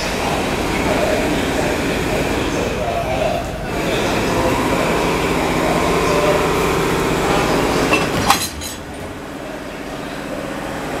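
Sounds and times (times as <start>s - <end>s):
train engine running: 0.0s - 11.0s.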